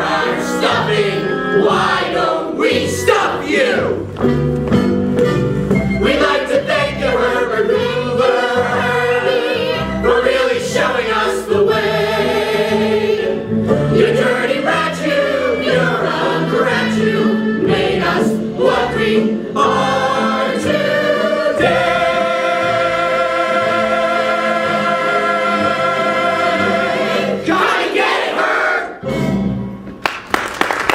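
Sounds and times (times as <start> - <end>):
group of voices singing: 0.0 - 4.1, 6.0 - 29.0
instrumental backing: 0.0 - 28.2.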